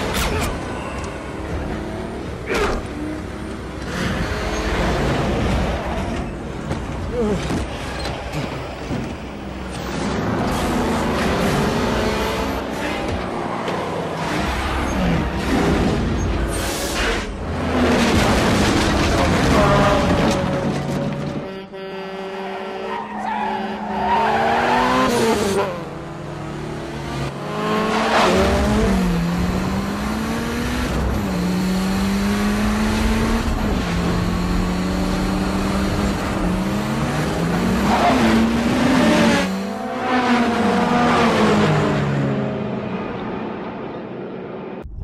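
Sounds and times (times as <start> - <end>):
car engines revving: 0.0 - 44.8.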